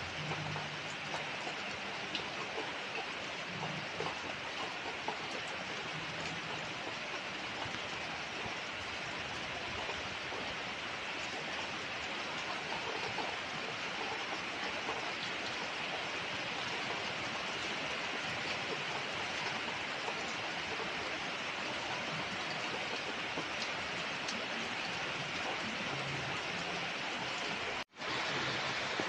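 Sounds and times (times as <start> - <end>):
rain falling on paved road: 0.0 - 29.0.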